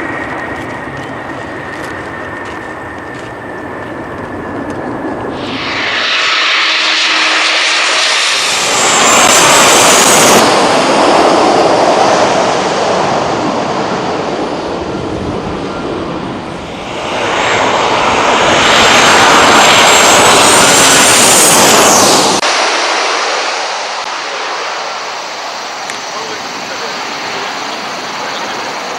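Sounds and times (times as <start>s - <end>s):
jet airliner engine whine: 0.0s - 28.9s.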